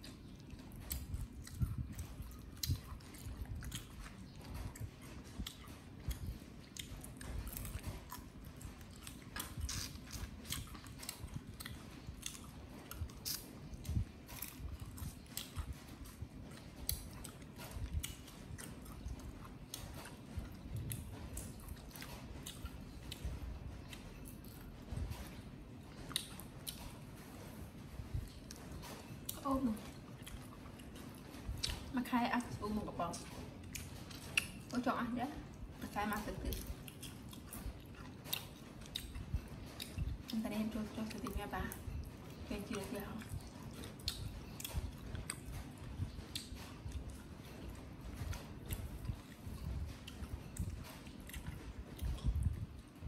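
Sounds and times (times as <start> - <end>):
chewing and crunching: 0.0 - 53.0.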